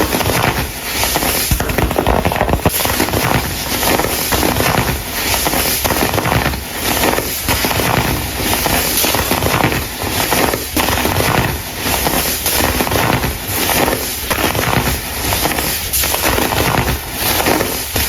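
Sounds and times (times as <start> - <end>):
crumble crunching and crackling: 0.0 - 18.0.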